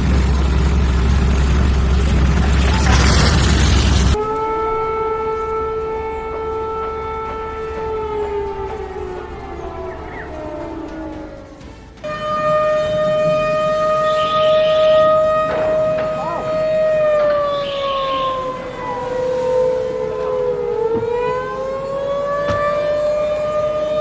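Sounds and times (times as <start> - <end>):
warning siren wailing: 0.0 - 24.0
second siren tone: 4.1 - 24.0.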